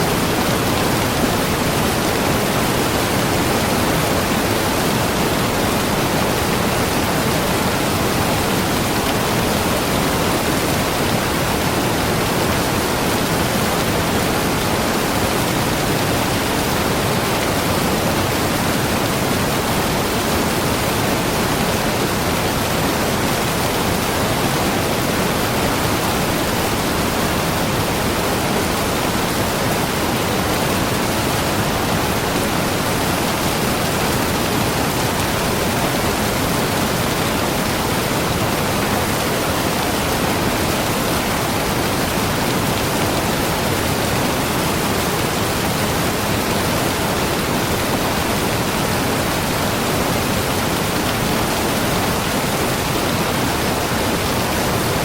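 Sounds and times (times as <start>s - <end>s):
waterfall pouring: 0.1s - 55.0s.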